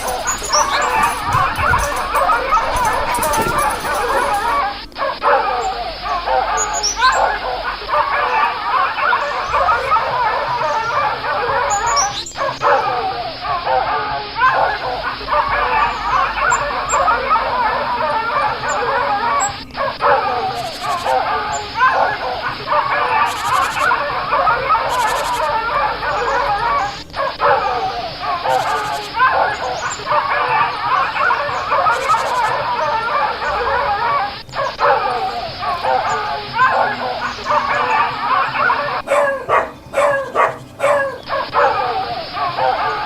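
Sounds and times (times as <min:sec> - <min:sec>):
wild dogs yipping and whimpering: 0:00.0 - 0:43.0.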